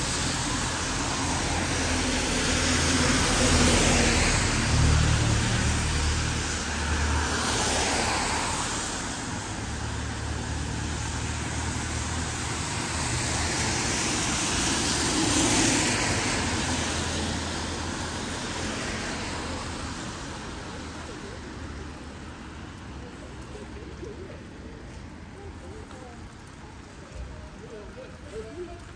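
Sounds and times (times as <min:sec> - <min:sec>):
cars passing on road: 0:00.0 - 0:28.9.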